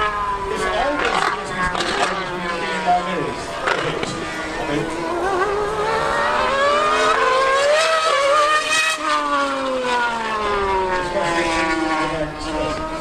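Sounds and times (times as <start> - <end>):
racing car engine screaming: 0.0 - 13.0
superbike engine screaming: 0.0 - 13.0.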